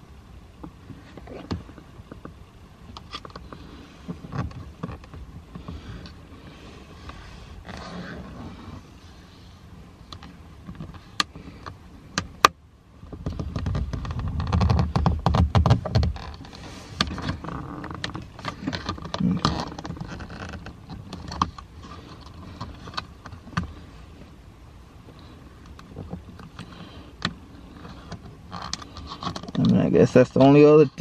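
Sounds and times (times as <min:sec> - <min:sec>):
rubbing and low rumbling: 0:00.0 - 0:31.0.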